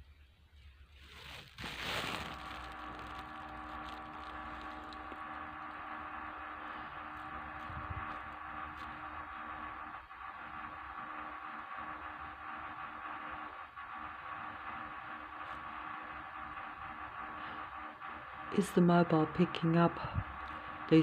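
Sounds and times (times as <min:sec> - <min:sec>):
mechanical hum with held tones: 0:00.0 - 0:21.0.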